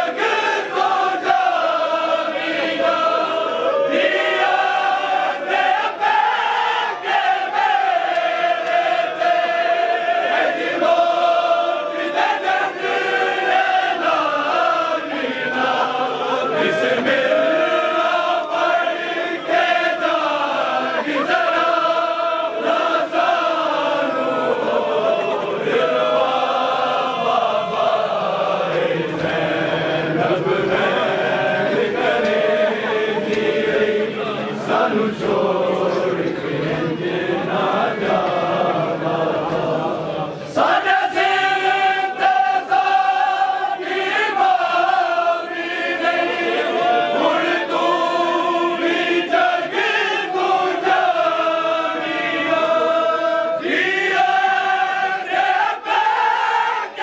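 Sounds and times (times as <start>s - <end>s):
men chanting a lament: 0.0s - 57.0s.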